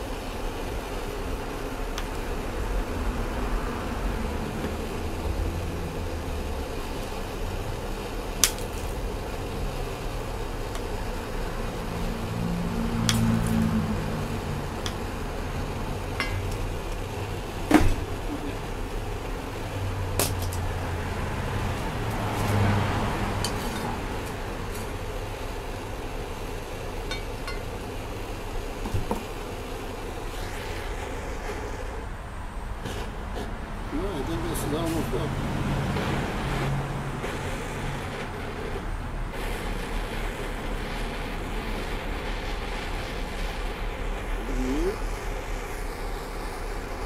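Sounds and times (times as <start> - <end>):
propane torch hissing: 0.0 - 47.0.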